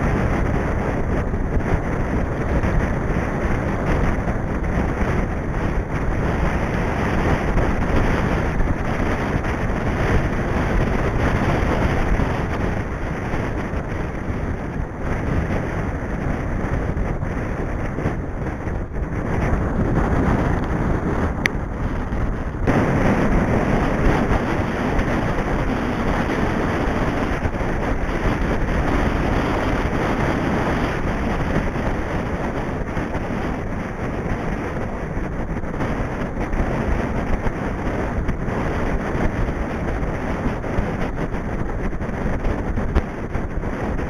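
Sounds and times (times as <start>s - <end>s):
wind noise on microphone: 0.0s - 44.0s.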